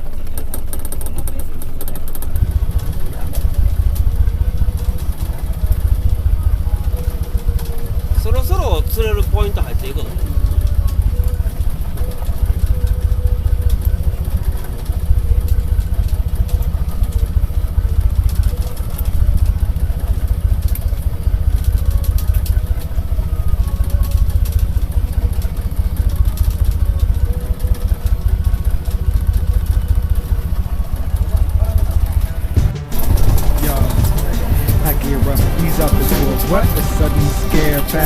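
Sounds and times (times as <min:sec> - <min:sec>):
boat engine rumbling: 0:00.0 - 0:38.0.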